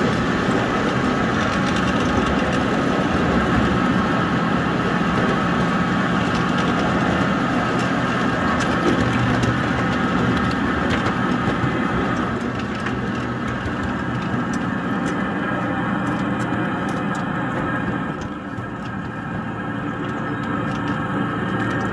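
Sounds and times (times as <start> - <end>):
scale locomotive engine hum: 0.0 - 21.9
wheels clicking on rails: 0.0 - 21.9.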